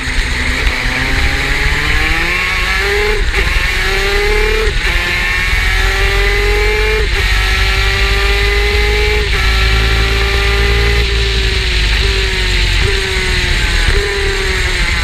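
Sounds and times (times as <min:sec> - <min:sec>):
two-stroke engine revving high: 0:00.0 - 0:15.0.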